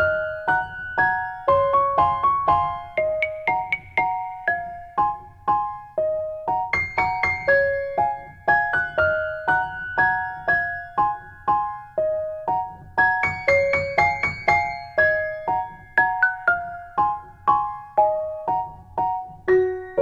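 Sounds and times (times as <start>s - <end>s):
keyboard melody: 0.0s - 20.0s.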